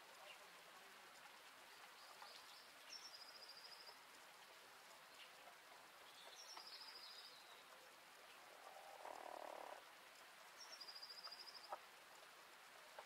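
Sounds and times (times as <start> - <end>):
faint outdoor hush: 0.0 - 13.0.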